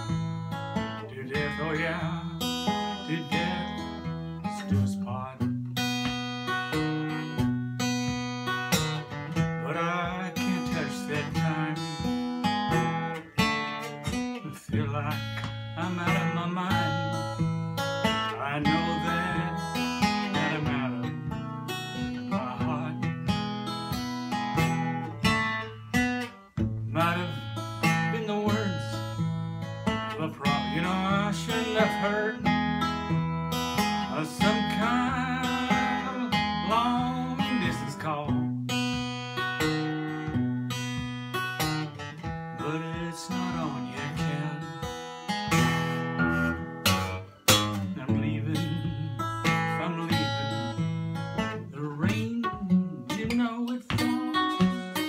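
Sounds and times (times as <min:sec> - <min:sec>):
acoustic guitar: 0:00.0 - 0:55.0
man singing: 0:00.8 - 0:05.9, 0:06.5 - 0:07.6, 0:08.7 - 0:23.4, 0:26.8 - 0:39.0, 0:41.6 - 0:55.0.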